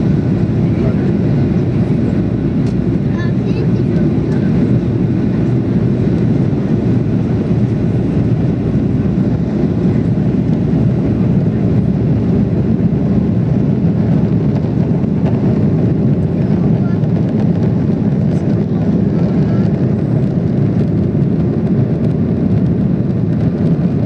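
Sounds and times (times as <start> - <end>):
air rushing over fuselage: 0.0 - 24.0
jet engines rumbling in cabin: 0.0 - 24.0.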